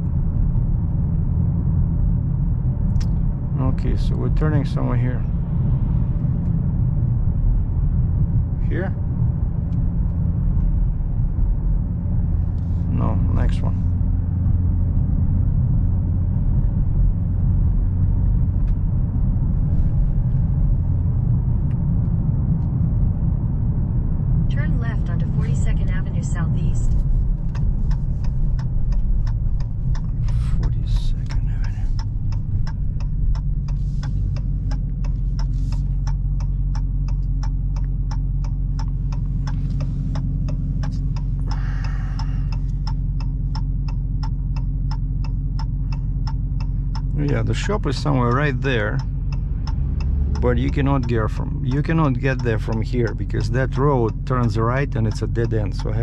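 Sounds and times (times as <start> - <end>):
car engine low rumble: 0.0 - 56.0
road noise inside car: 0.0 - 56.0
turn signal ticking: 0.0 - 56.0.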